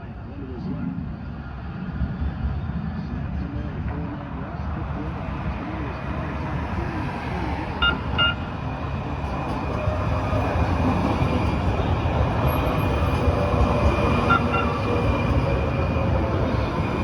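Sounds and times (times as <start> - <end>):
rail car rumble: 0.0 - 17.0.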